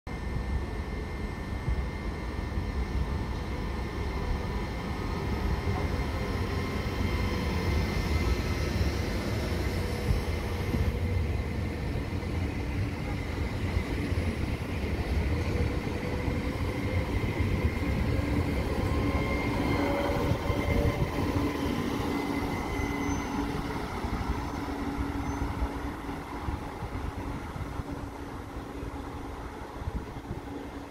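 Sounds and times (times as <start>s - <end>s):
train rumbling: 0.1s - 30.9s.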